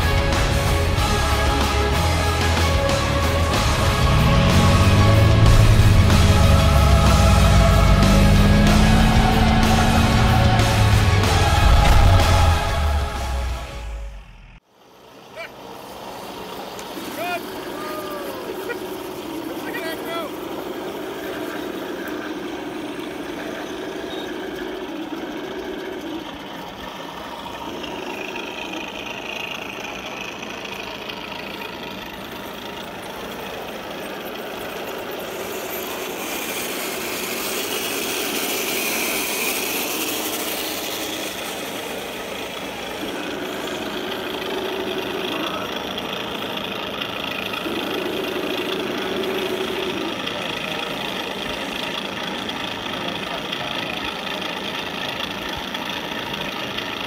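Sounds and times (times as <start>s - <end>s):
model tank engine sounds from speakers: 0.0s - 57.0s.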